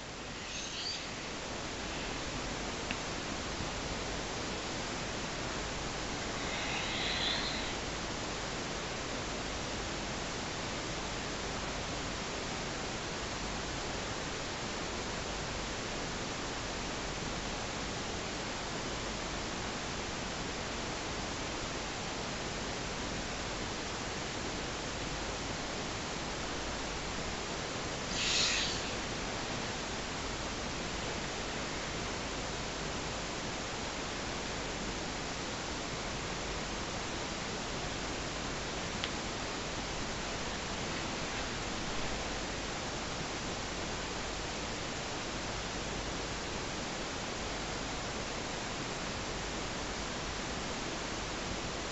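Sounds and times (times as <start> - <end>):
microphone hiss: 0.0 - 51.9.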